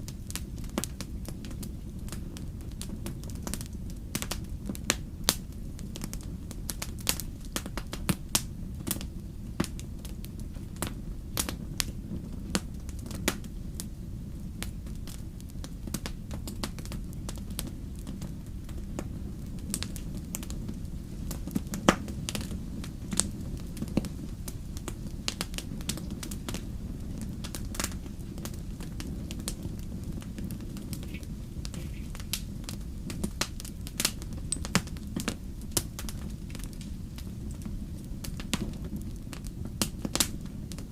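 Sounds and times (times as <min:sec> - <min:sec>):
burning logs popping: 0:00.0 - 0:40.9
low rumble of flames: 0:00.0 - 0:40.9.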